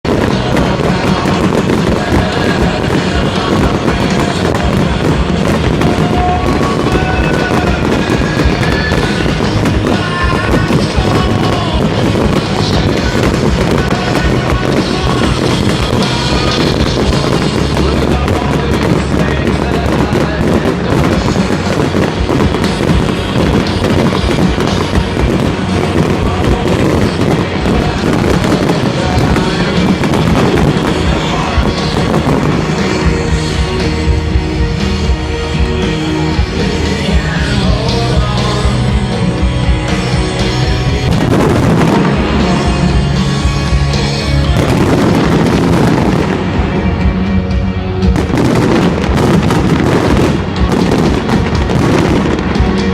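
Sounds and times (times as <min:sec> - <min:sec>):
fireworks crackling and popping: 0:00.0 - 0:52.9
music playing: 0:00.0 - 0:52.9.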